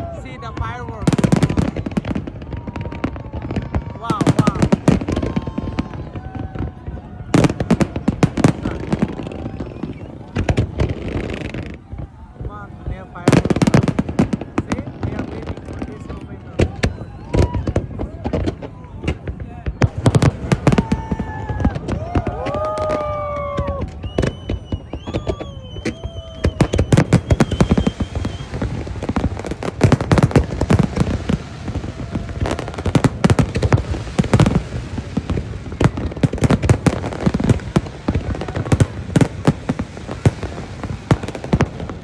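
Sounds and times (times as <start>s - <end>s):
crowd voices calling out: 0.0s - 42.0s
fireworks bangs and crackling: 0.0s - 42.0s.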